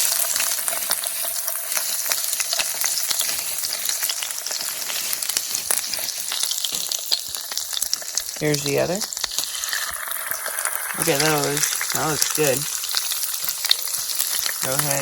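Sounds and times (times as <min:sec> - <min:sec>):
fish sizzling in butter: 0:00.0 - 0:15.0.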